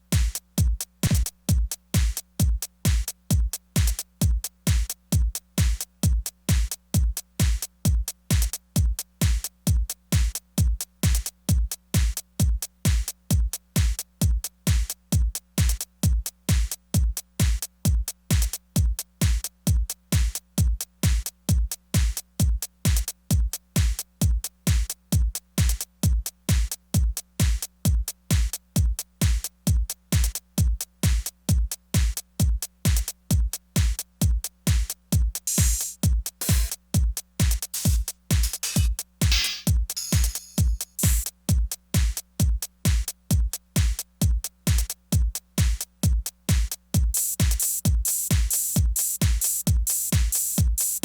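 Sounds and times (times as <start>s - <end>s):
electronic kick drum: 0.0s - 51.0s
hi-hat ticks: 0.0s - 51.0s.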